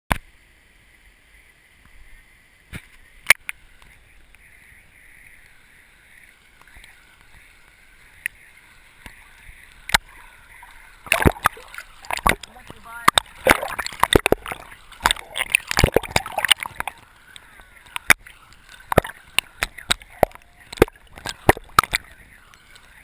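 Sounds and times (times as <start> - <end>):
muffled underwater river rushing: 0.1 - 23.0
water splashing: 2.5 - 23.0.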